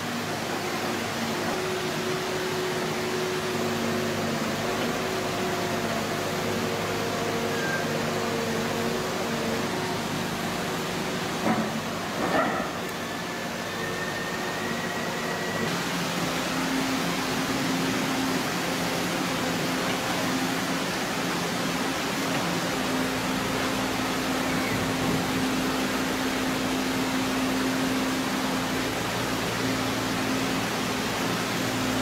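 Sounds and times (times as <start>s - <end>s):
excavator engine and hydraulics: 0.0s - 32.0s.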